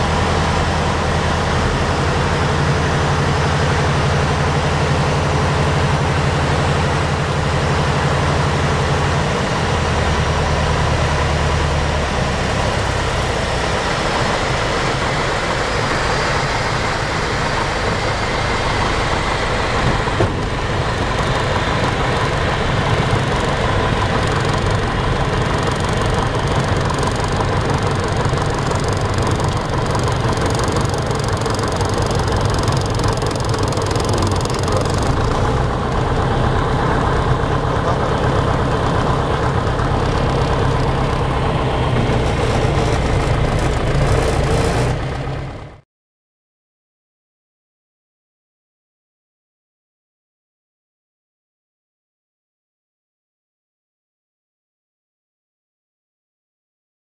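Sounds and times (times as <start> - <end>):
aircraft engine droning: 0.0 - 45.8.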